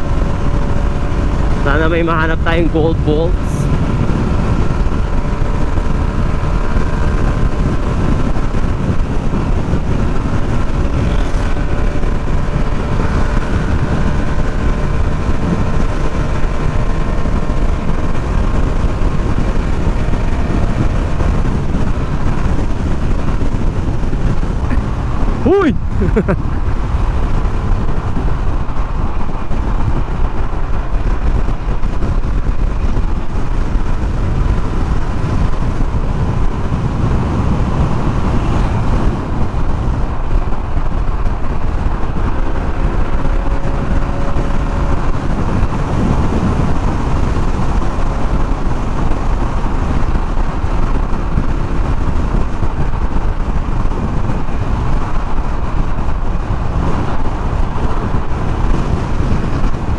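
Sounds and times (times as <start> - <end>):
road noise: 0.0 - 59.9
wind rush on microphone: 0.0 - 59.9.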